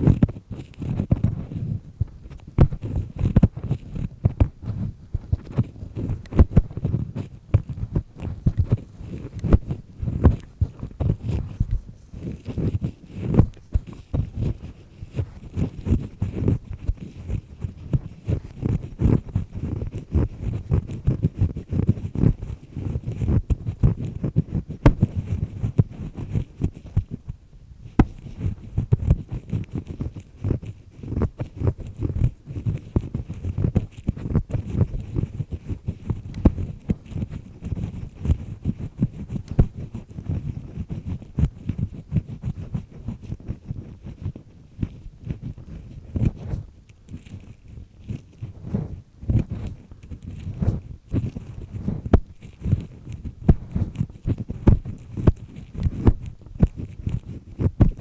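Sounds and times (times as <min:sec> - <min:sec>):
ear pick scraping in ear: 0:00.0 - 0:58.0.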